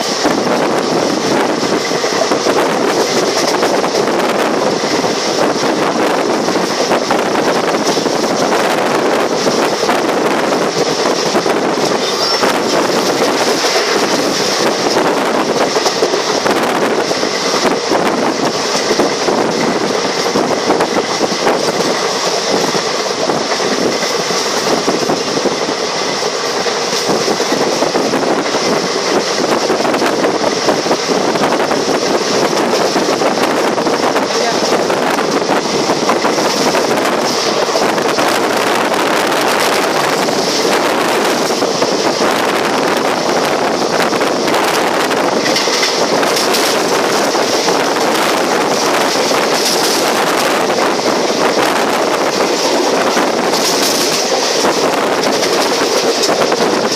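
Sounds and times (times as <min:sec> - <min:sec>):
train carriage rumbling and rattling: 0:00.0 - 0:56.9.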